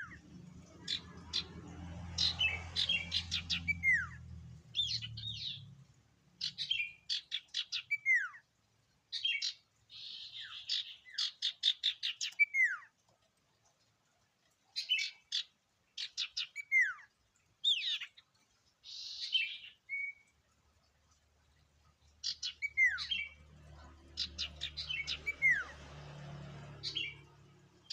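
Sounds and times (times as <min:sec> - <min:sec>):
songbird singing: 0:00.0 - 0:13.0, 0:14.6 - 0:27.9.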